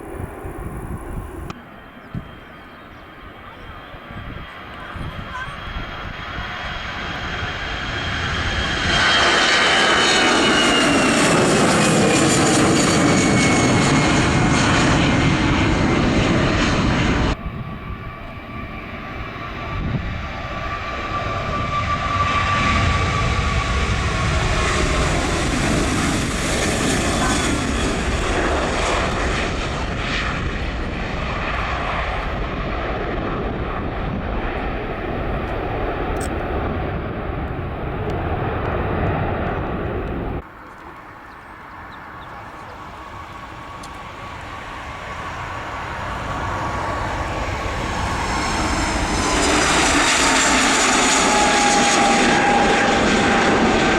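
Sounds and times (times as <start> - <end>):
airliner engines passing: 0.0 - 53.9.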